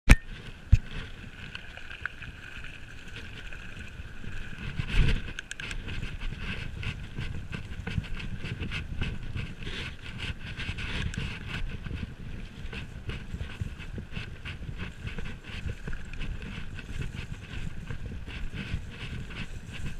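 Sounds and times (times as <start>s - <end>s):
bike tyres rolling on gravel: 0.2s - 19.9s
bike clattering and rattling: 0.3s - 19.9s.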